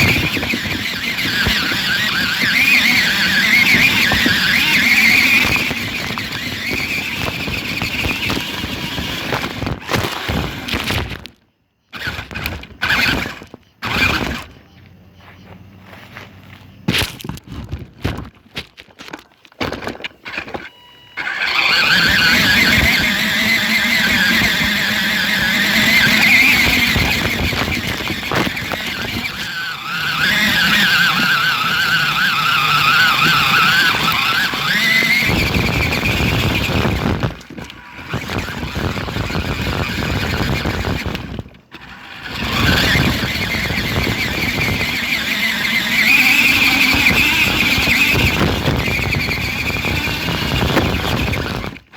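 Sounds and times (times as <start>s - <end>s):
toy car motor whining: 0.0s - 14.8s, 19.8s - 51.9s.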